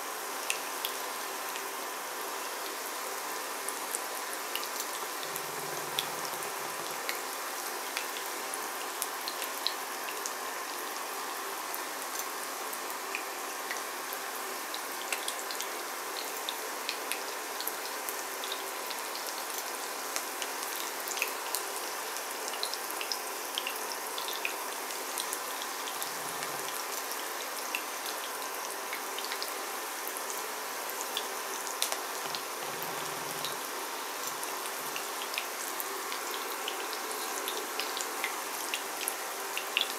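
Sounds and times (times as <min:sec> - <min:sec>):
food frying in oil: 0:00.0 - 0:39.9.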